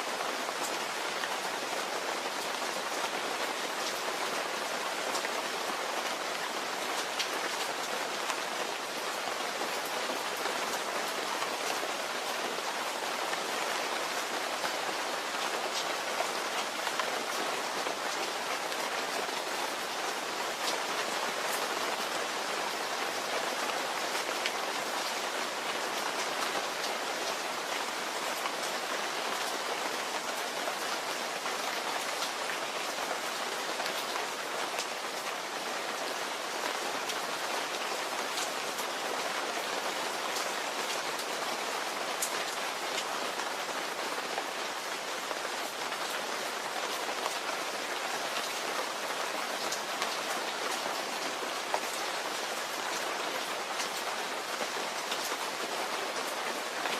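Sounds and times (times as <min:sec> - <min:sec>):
raindrops ticking on a surface: 0:00.0 - 0:56.9
steady rain hiss: 0:00.0 - 0:56.9.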